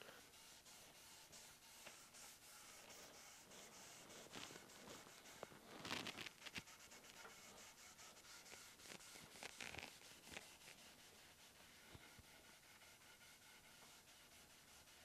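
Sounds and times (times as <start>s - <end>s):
cloth rubbing on wood: 0.0s - 15.0s.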